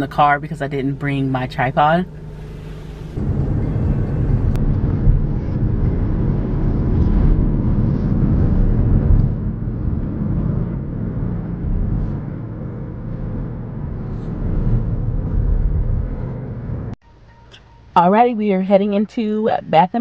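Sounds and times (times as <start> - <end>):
car engine rumble: 0.0 - 17.9
road noise: 0.0 - 18.0.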